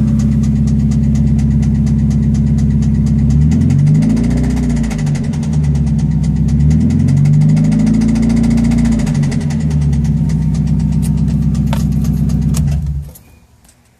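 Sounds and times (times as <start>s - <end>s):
fast regular engine knock: 0.0s - 13.0s
car engine idling: 0.0s - 13.4s.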